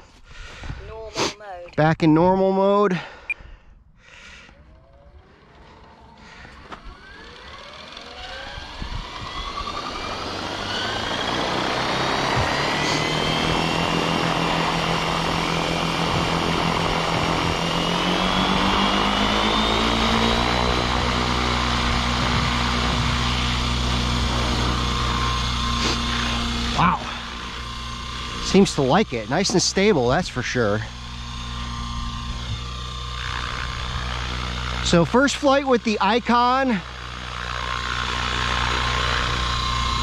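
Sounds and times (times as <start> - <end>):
rc helicopter motor whine: 2.6 - 40.0
rotor blades beating: 4.0 - 40.0.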